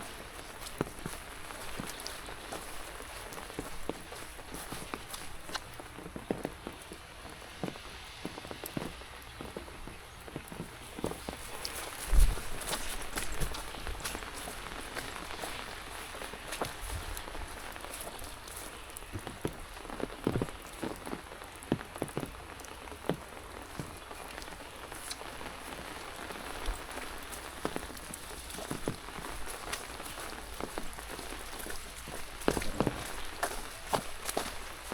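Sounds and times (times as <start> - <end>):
rain falling: 0.0 - 34.9
raindrops tapping: 0.0 - 34.9.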